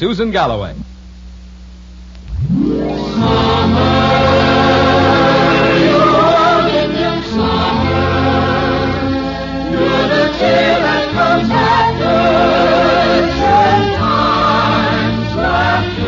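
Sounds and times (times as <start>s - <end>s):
choir singing: 3.0s - 16.0s.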